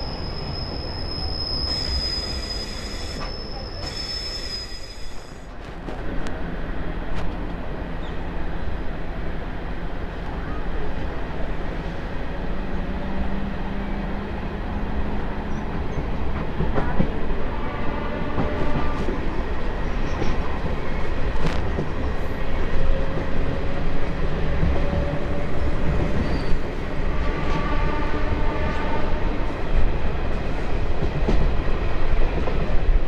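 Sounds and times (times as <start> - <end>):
train wheel and rail noise: 0.0 - 33.0.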